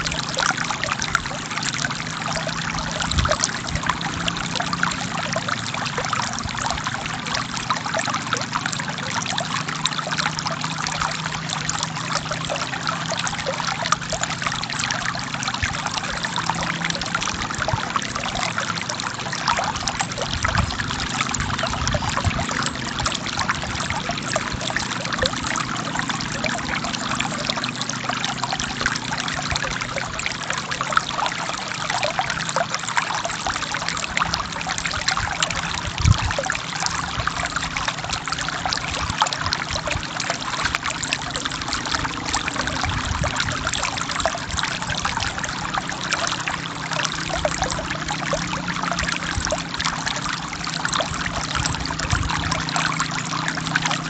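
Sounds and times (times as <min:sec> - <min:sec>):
gentle waterfall: 0:00.0 - 0:54.0
river water splashing over rocks: 0:00.0 - 0:54.0.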